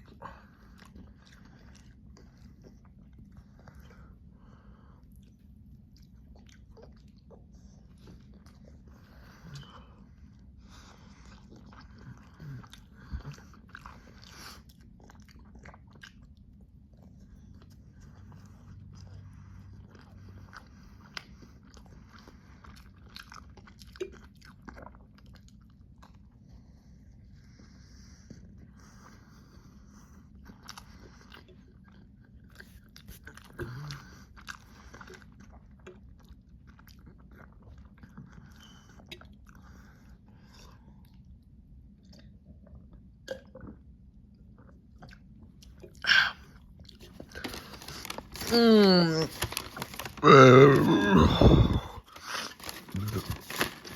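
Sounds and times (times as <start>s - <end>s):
person chewing food: 0.0s - 26.4s, 30.3s - 53.9s.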